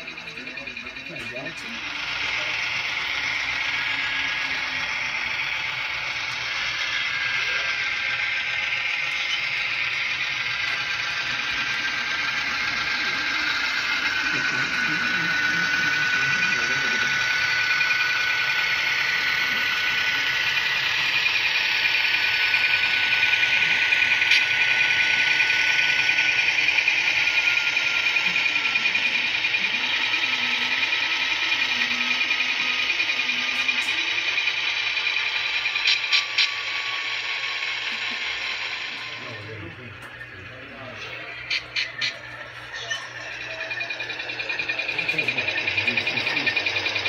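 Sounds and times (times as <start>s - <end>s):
electric motor whining: 0.0s - 47.0s.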